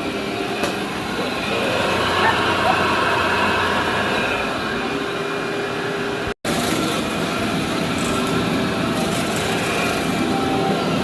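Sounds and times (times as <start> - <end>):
vacuum cleaner running over carpet: 0.0 - 11.0.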